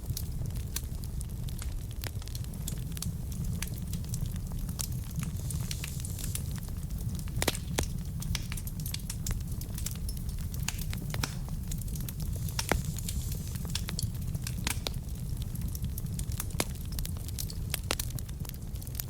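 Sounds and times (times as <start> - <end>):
logs crackling and popping: 0.0 - 19.0
low rumble of flame: 0.0 - 19.0.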